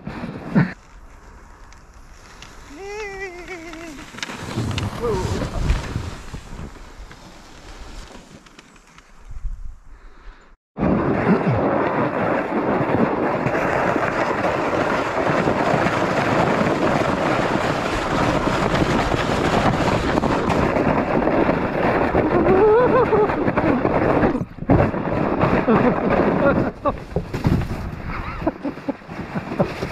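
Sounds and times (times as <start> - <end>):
sled scraping over snow: 0.0 - 9.6, 10.8 - 29.9.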